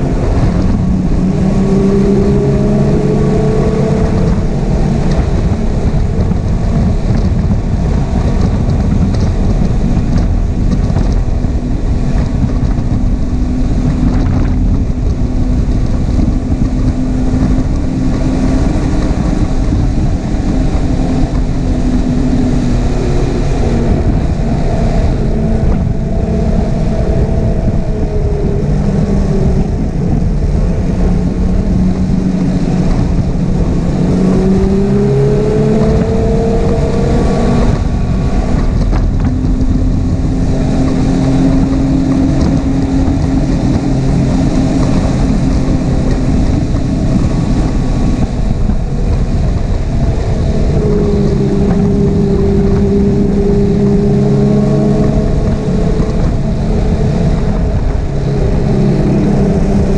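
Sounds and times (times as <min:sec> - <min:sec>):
snowmobile engine running: 0:00.0 - 0:59.9
wind rumble on microphone: 0:00.0 - 0:59.9.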